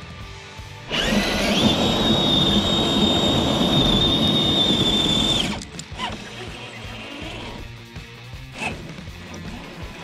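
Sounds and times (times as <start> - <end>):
electric motor and gears whining: 0.8 - 10.0.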